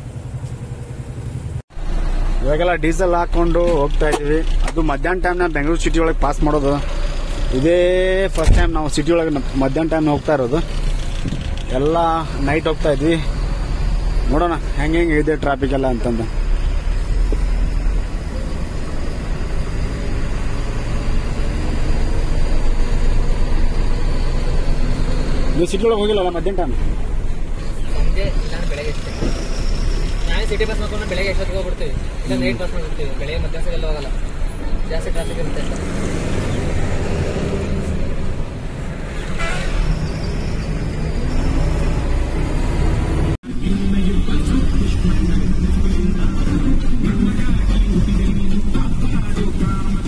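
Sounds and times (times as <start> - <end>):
road noise: 0.0 - 50.0
truck diesel engine under load: 0.0 - 50.0.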